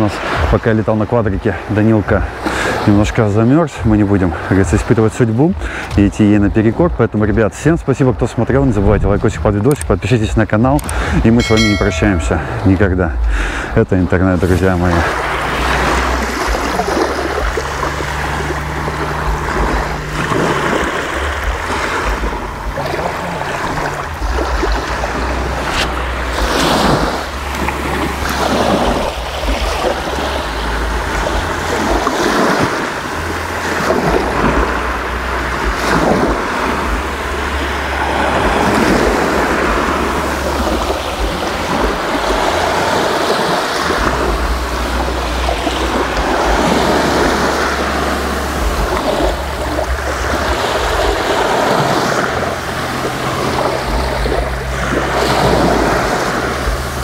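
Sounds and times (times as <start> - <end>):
waves breaking on sandy shore: 0.0 - 57.0
wind rumble on microphone: 0.0 - 57.0.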